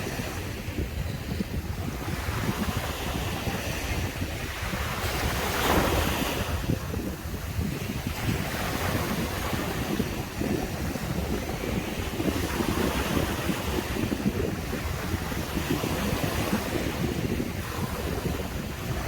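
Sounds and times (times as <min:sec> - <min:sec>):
sea surf washing onto beach: 0:00.0 - 0:19.0
wind buffeting microphone: 0:00.0 - 0:19.0.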